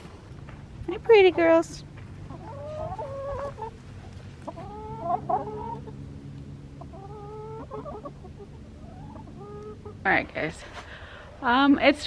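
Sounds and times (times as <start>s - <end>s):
hens clucking and calling: 1.0s - 11.6s.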